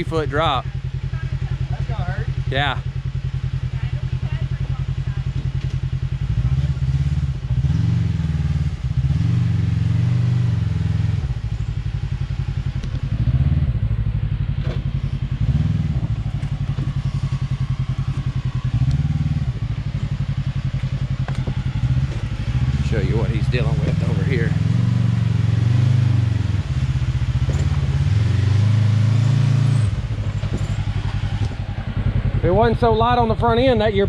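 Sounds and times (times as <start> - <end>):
utv engine revving: 0.0 - 34.0.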